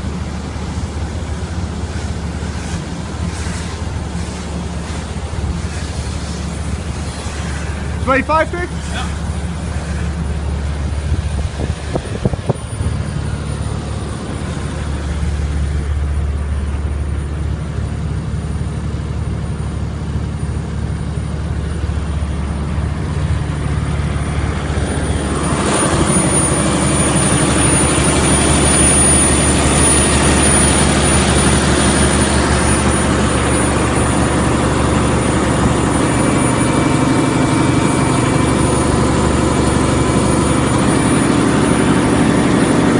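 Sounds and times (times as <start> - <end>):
diesel generator running: 0.0 - 42.9.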